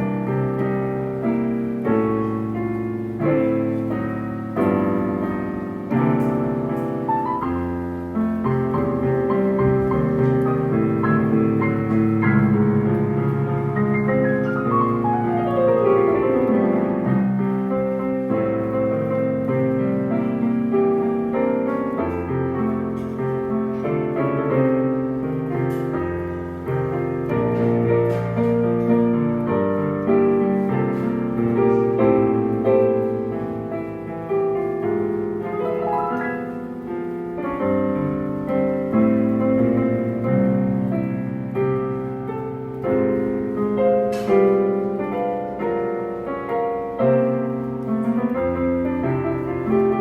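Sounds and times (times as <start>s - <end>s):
solo piano jazz ballad: 0.0s - 50.0s.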